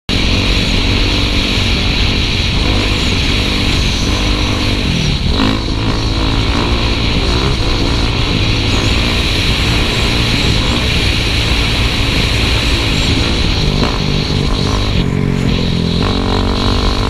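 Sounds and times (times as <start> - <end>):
dirt bike engine revving: 0.1 - 17.0.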